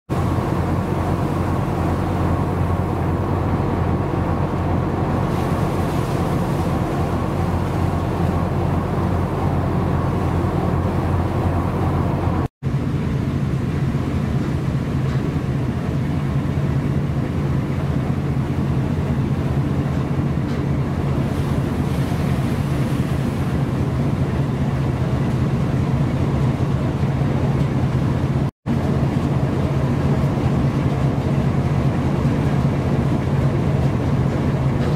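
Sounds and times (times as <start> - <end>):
low mechanical hum: 0.1 - 34.9
rough sea washing: 0.1 - 34.9.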